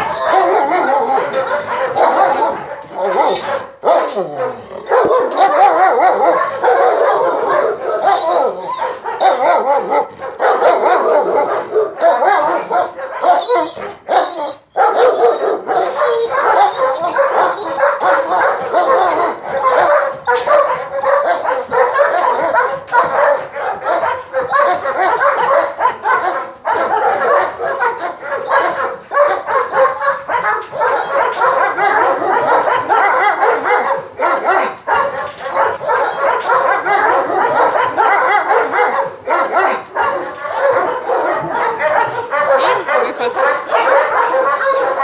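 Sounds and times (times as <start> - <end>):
many dogs barking and yelping: 0.0 - 45.0.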